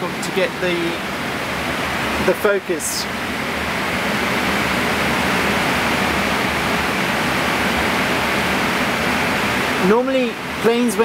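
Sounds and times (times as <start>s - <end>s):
air rushing past cockpit: 0.0s - 10.8s
air-conditioning hiss: 0.0s - 11.0s.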